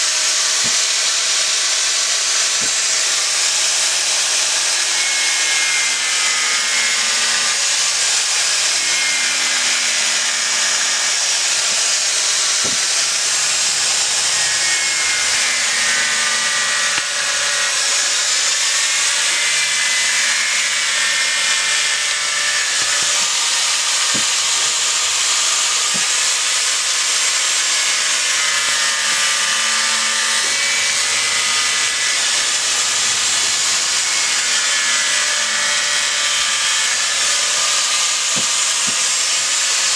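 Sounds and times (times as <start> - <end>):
angle grinder grinding wood: 0.0 - 39.9.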